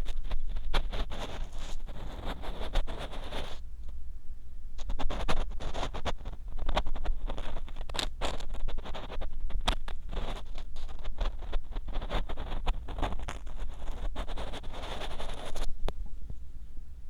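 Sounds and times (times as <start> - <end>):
ear pick scraping microphone: 0.0 - 3.6, 4.8 - 16.4.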